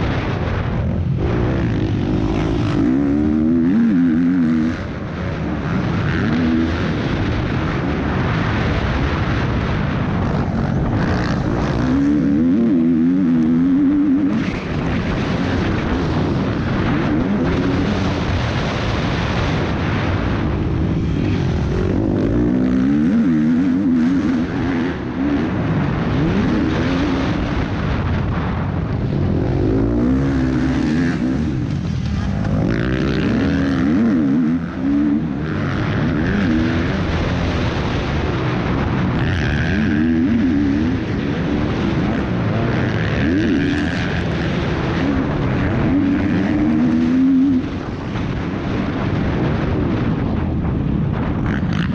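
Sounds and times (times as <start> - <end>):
motocross bike engine revving: 0.0 - 50.5, 51.2 - 51.9
rush of wind: 0.0 - 51.9.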